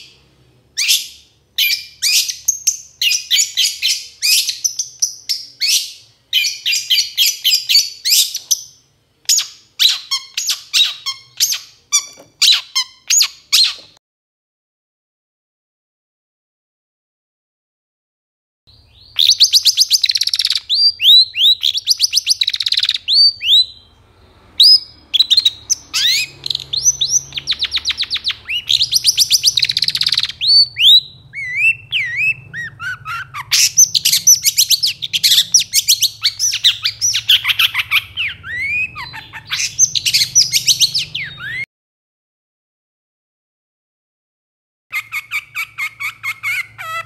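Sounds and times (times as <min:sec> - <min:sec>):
bird chirping and trilling: 0:00.0 - 0:14.0, 0:18.7 - 0:41.7, 0:44.9 - 0:47.0.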